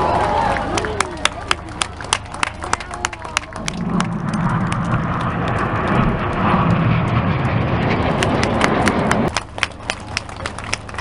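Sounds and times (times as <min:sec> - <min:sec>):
jet engines roaring overhead: 0:00.0 - 0:11.0.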